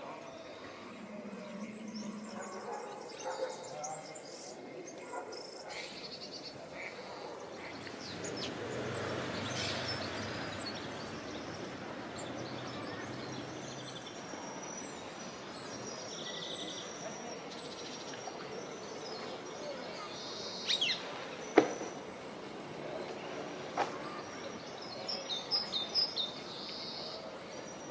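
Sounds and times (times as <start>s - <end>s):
city park background hum: 0.0s - 27.9s
songbirds chirping: 0.0s - 27.9s.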